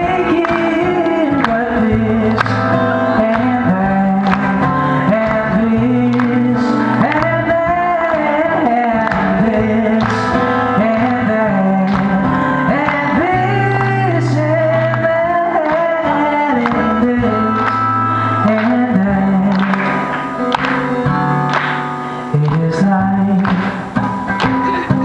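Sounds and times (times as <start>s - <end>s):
man singing: 0.0s - 20.5s, 22.2s - 25.0s.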